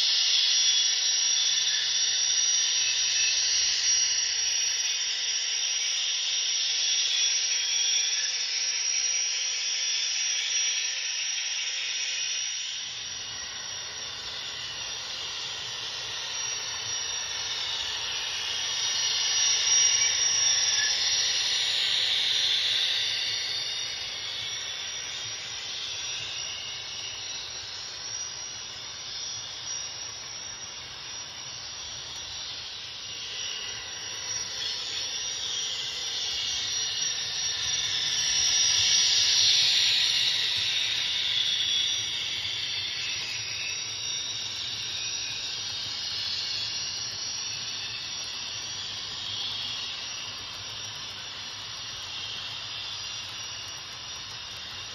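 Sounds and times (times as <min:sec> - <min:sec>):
model train turbine hiss: 0:00.0 - 0:54.9.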